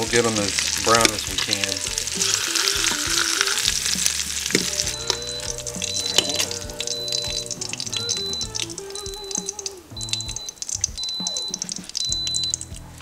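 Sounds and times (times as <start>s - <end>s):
meat sizzling in hot oil: 0.0s - 12.8s
background music: 0.0s - 13.0s.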